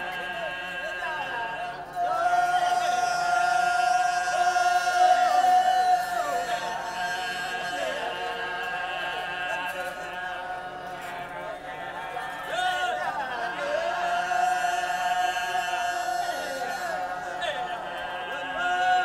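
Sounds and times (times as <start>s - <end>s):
men singing in unaccompanied chorus: 0.0s - 19.0s.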